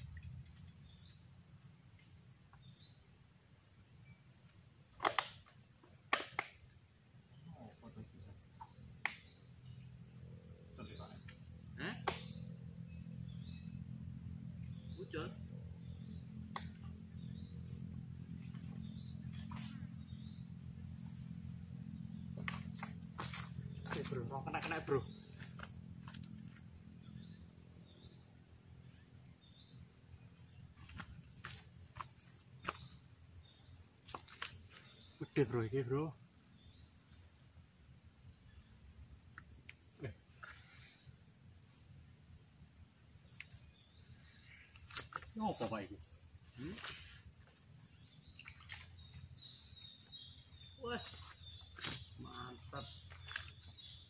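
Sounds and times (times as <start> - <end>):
crickets chirring: 0.0 - 54.0
insect trilling: 0.0 - 54.0
low outdoor hum: 0.0 - 54.0.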